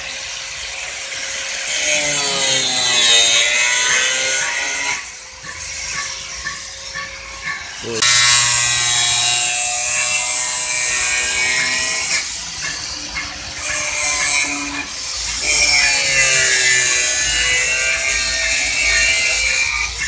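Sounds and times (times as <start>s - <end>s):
angle grinder cutting metal: 0.0s - 20.0s.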